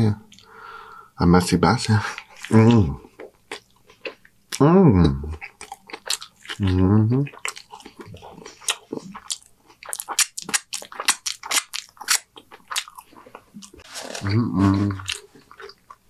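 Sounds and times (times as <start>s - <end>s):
wet chewing: 1.9s - 4.6s, 5.3s - 16.0s.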